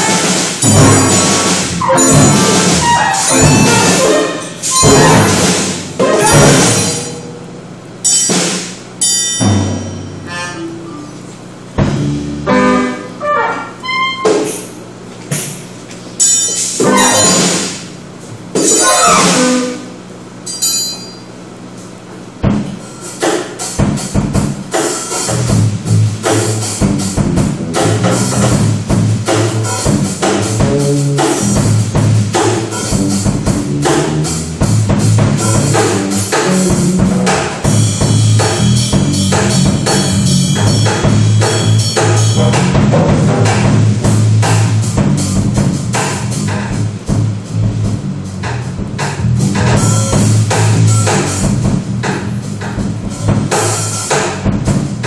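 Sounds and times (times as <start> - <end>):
drums and hand percussion: 0.0 - 10.2, 14.2 - 18.0, 18.6 - 19.8, 22.4 - 55.0
low bass notes: 0.0 - 20.4, 21.6 - 22.9, 23.8 - 55.0.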